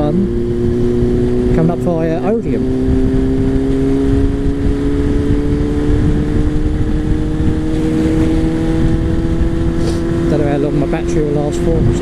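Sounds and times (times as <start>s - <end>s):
low wind rush: 0.0s - 12.0s
motorcycle engine running: 0.0s - 12.0s.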